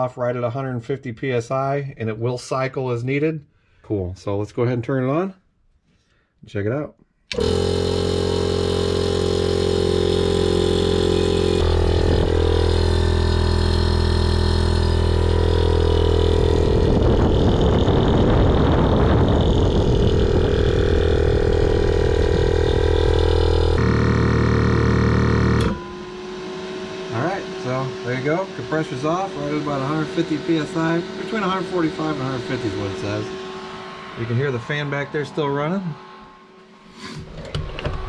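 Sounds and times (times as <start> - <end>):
air compressor running: 7.3 - 38.0
cooling fan running: 7.3 - 38.0.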